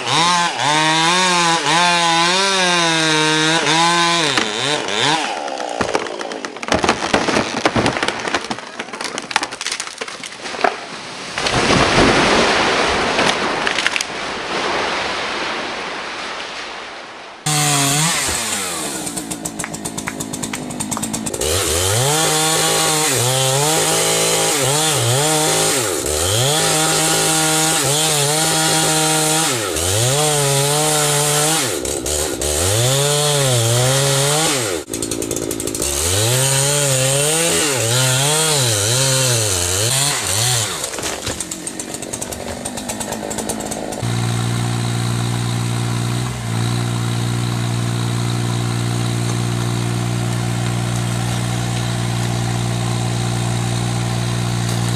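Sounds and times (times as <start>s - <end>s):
chainsaw cutting timber: 0.0s - 14.1s, 17.4s - 54.9s.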